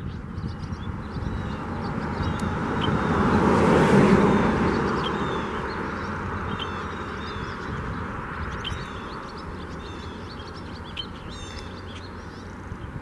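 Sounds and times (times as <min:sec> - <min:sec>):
bird chirps and calls: 0:00.0 - 0:03.4, 0:04.0 - 0:13.0.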